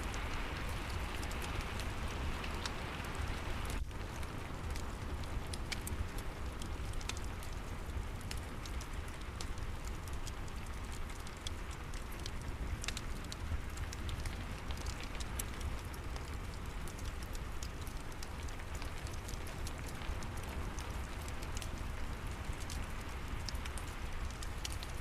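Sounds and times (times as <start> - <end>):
fireplace crackling and popping: 0.0 - 25.0
rain falling: 0.0 - 25.0.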